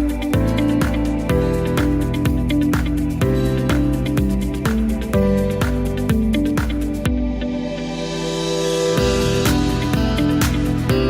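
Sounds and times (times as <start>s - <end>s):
mellow instrumental music: 0.0s - 11.0s.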